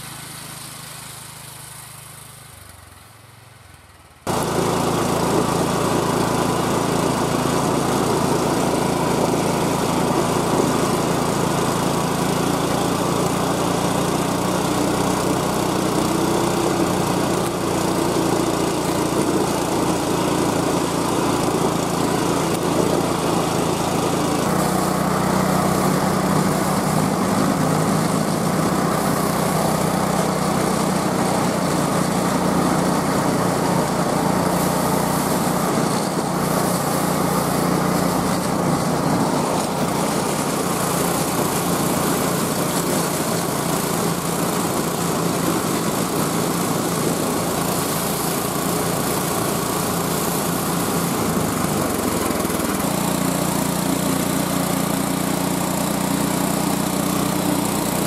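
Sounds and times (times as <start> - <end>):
small gas engine running: 0.0 - 58.0.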